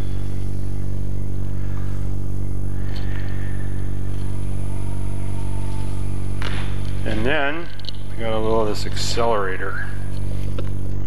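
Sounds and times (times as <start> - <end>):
lathe motor humming: 0.0 - 9.2.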